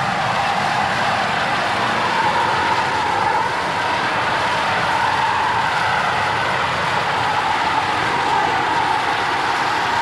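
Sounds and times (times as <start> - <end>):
steam hissing from locomotive: 0.0 - 10.0.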